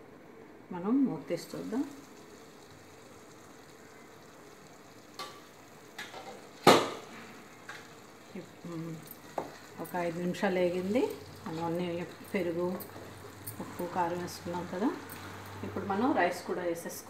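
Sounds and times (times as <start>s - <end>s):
food sizzling in oil: 1.1s - 17.0s.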